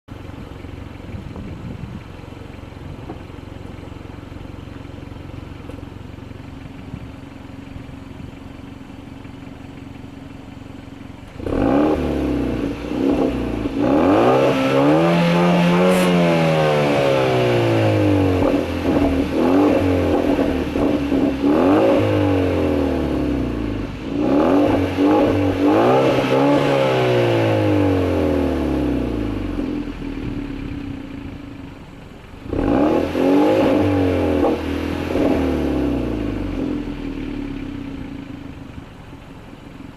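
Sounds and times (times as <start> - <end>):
car exhaust idling and revving: 0.1 - 39.9.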